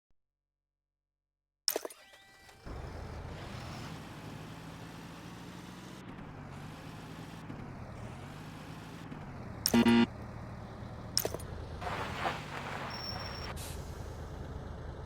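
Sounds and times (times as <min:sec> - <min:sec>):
tractor engine running: 0:02.7 - 0:15.0.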